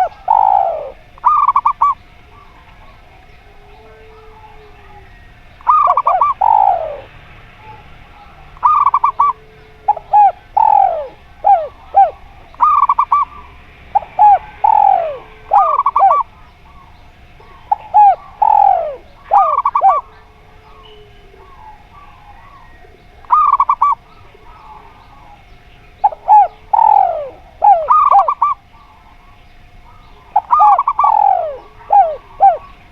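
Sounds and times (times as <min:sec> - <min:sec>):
doves cooing: 0:00.0 - 0:32.9
faint steady hum: 0:00.0 - 0:32.9.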